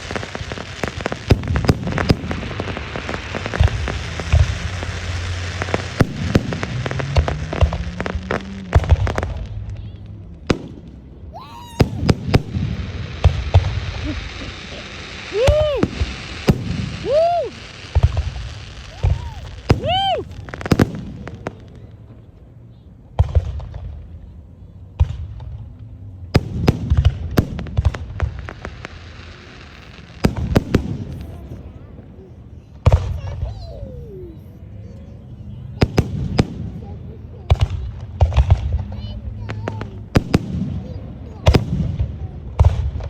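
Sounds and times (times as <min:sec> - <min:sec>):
firework bangs: 0:00.0 - 0:22.2, 0:25.0 - 0:34.5, 0:35.6 - 0:43.0
fireworks crackling pops: 0:00.0 - 0:22.4, 0:23.1 - 0:24.2, 0:25.0 - 0:34.4, 0:35.7 - 0:43.0.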